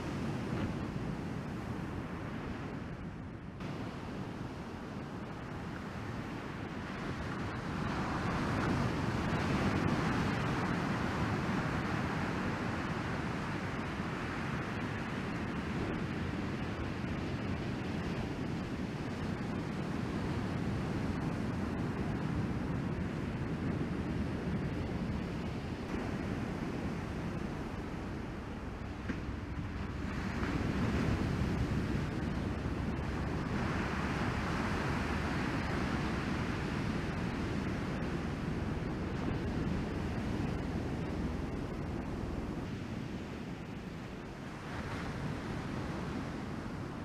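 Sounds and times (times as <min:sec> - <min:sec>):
ocean waves breaking on sand: 0:00.0 - 0:47.0
wind on microphone: 0:00.0 - 0:47.0.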